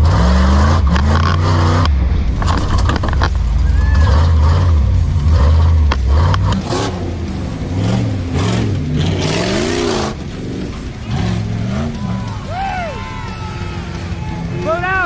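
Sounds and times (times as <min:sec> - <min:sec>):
car engine revving hard: 0:00.0 - 0:12.4.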